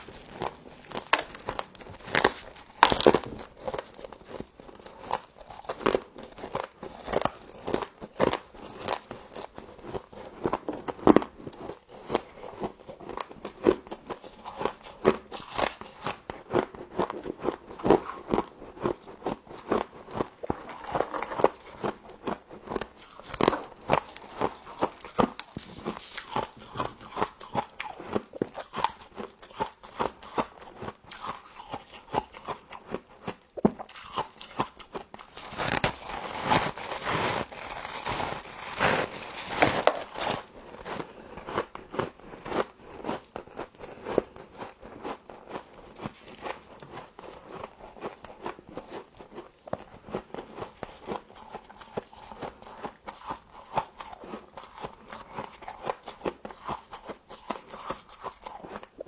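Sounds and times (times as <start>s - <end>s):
chewing frost crunches: 0.0s - 59.0s.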